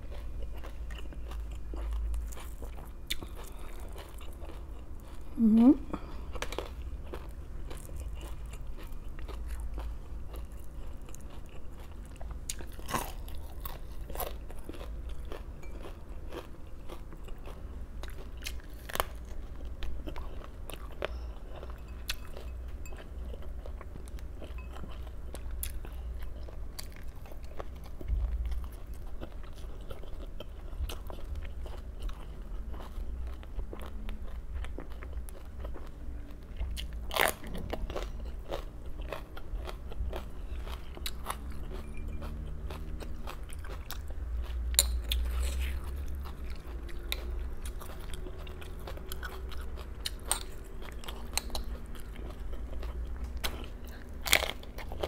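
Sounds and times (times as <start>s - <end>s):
chewing crisp raw vegetables: 0.0s - 55.0s
low steady hum: 0.0s - 55.0s.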